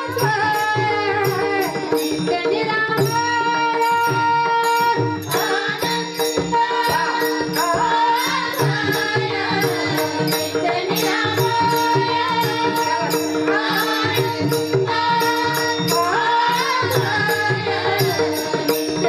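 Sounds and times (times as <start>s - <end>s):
repeating percussion beat: 0.0s - 19.0s
woman singing: 0.0s - 19.0s.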